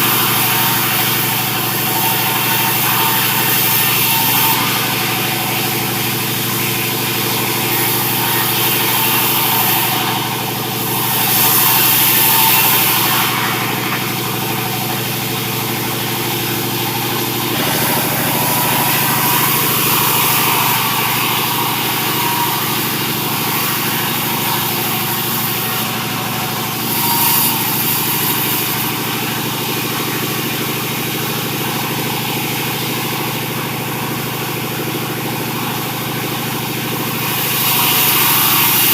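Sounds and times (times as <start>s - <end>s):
saw cutting timber: 0.0s - 38.9s
sawmill engine running: 0.0s - 38.9s.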